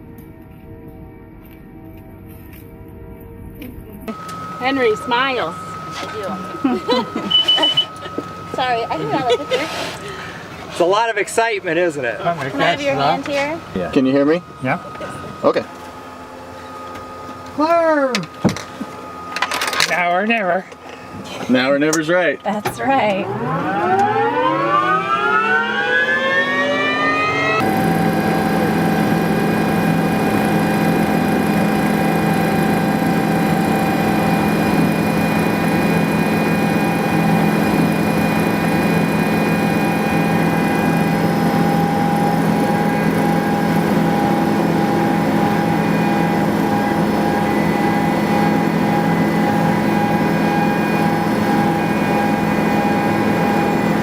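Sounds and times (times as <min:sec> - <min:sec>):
helicopter rotor drone: 0:00.8 - 0:54.0
helicopter turbine whine: 0:03.4 - 0:54.0.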